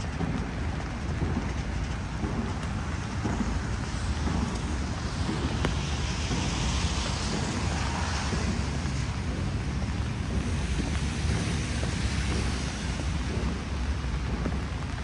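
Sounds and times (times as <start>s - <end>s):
car tyres on wet road: 0.0s - 15.0s
steady rain: 0.0s - 15.0s.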